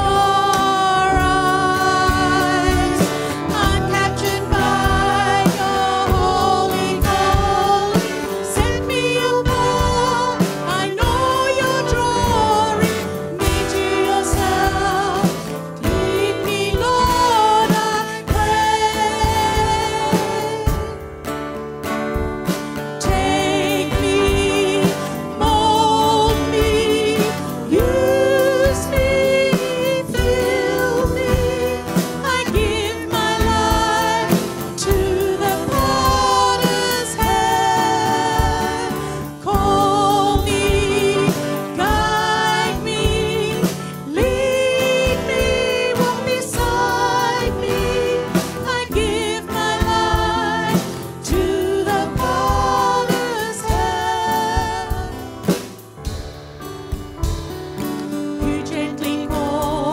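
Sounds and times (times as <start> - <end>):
women singing with vibrato: 0.0 - 21.0, 22.8 - 55.8, 58.3 - 59.9
drum kit: 0.0 - 59.9
guitar: 0.0 - 59.9.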